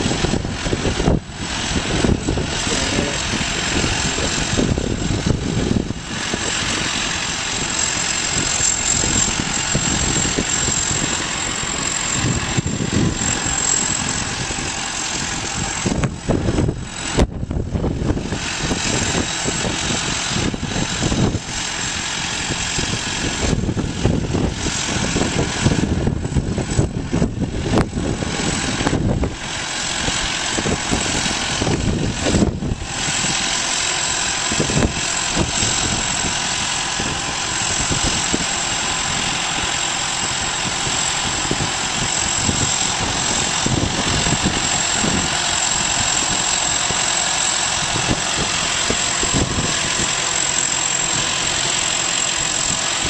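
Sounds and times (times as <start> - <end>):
farm machinery engine running: 0.0 - 53.0.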